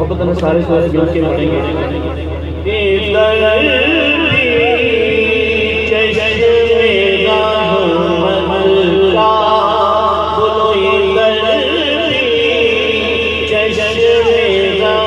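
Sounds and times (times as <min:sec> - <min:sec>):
man singing through microphone: 0:02.5 - 0:15.0.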